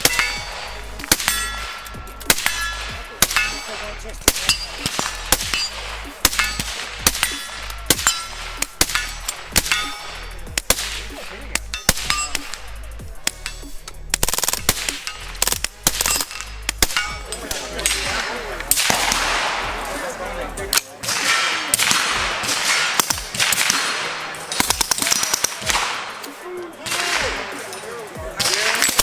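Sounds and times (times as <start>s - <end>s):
gunshots: 0.0s - 29.0s.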